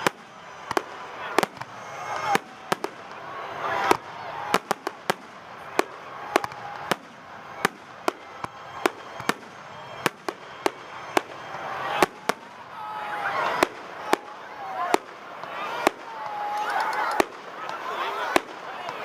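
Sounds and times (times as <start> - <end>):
fireworks banging: 0.0 - 19.0
fireworks crackling hiss: 0.0 - 19.0.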